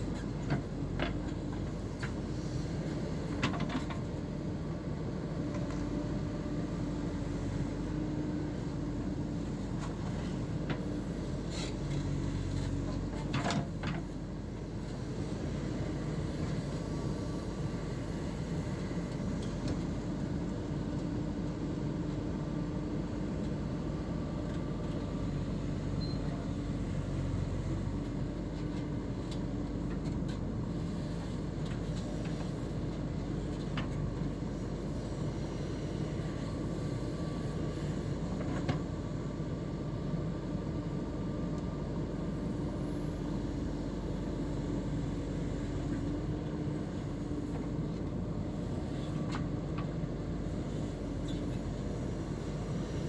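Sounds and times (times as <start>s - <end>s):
backhoe diesel engine running: 0.0s - 53.0s.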